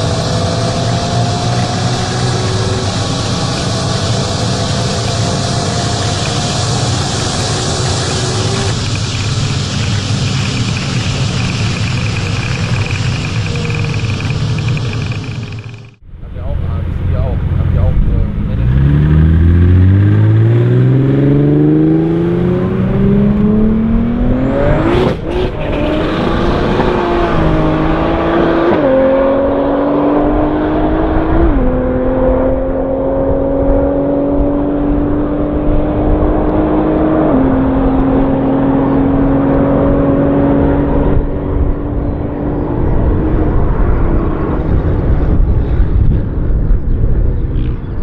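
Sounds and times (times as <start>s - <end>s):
car engines revving at full throttle: 0.0s - 48.0s.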